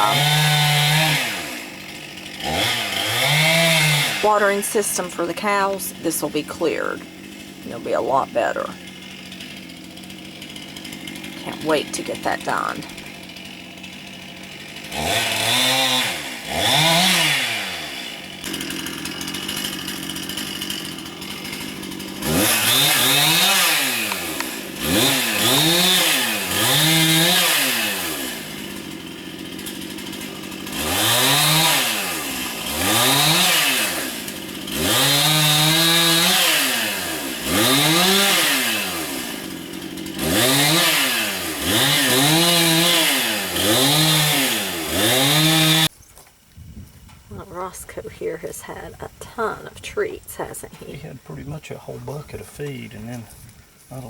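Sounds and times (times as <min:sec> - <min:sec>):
chainsaw revving and idling: 0:00.0 - 0:45.9.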